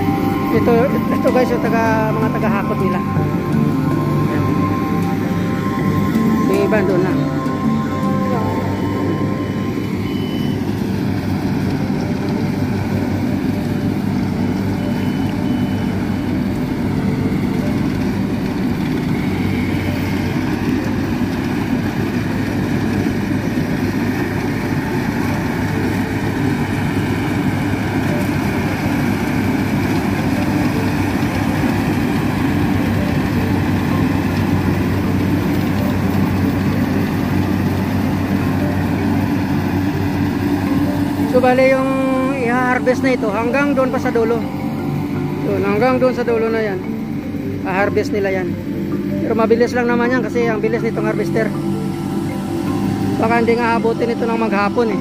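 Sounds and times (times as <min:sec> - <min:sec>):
combine harvester engine droning: 0:00.0 - 0:55.0.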